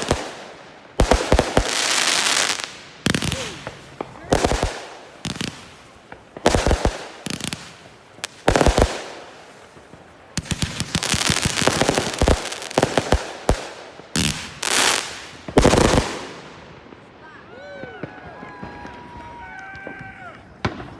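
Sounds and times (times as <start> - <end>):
firework bangs: 0.0 - 17.1, 17.8 - 20.9
firework crackling: 0.0 - 20.9.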